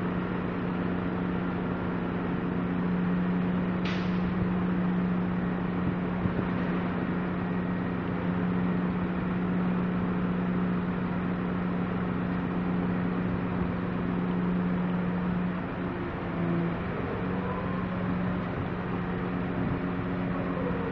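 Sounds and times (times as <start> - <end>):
heavy machinery humming: 0.0 - 20.9.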